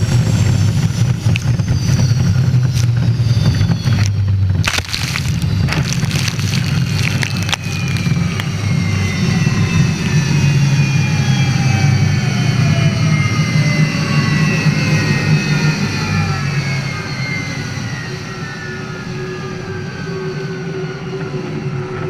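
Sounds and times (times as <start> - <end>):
high turbine whines falling in pitch: 0.0 - 7.0, 7.7 - 22.0
gas turbine engine drone: 0.0 - 22.0.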